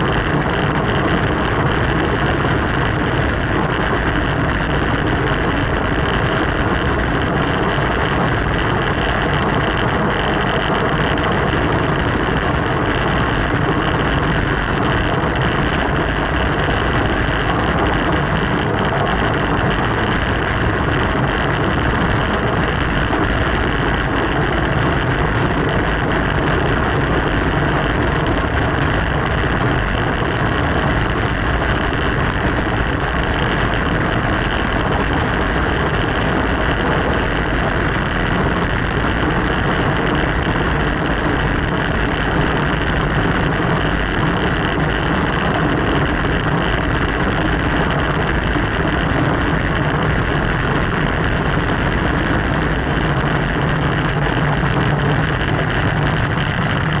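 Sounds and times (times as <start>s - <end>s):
wind and road rushing: 0.0s - 57.0s.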